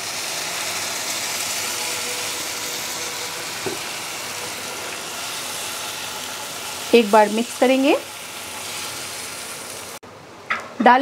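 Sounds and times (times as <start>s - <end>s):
gravy sizzling in a frying pan: 0.0s - 10.0s.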